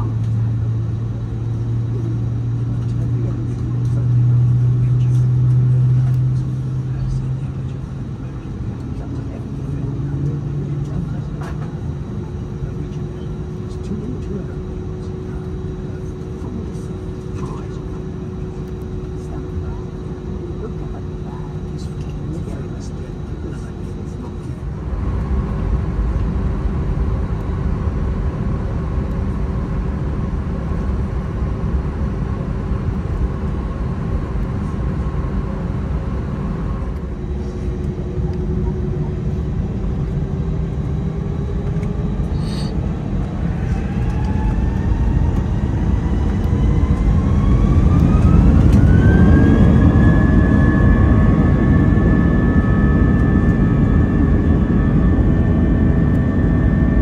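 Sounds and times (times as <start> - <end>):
jet engine rumble and hum: 0.0 - 57.0
jet engine whine rising: 0.0 - 57.0.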